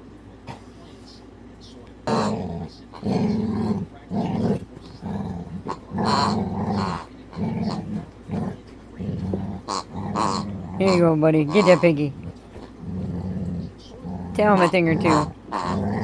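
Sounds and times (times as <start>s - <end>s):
dog growling softly: 2.0s - 16.0s.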